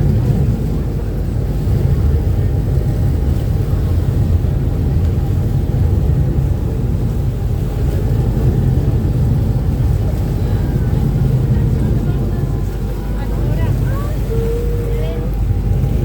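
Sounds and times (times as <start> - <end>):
boat engines rumbling: 0.0 - 16.0
rushing water: 0.0 - 16.0
wind: 0.0 - 16.0.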